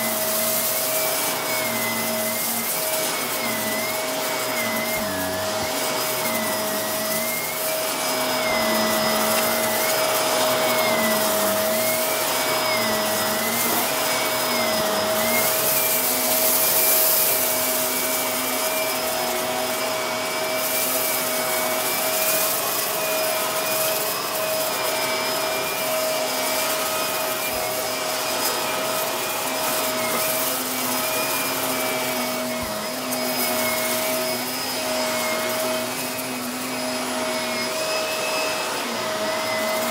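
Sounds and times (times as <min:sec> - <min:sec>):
vacuum cleaner on carpet: 0:00.0 - 0:39.9.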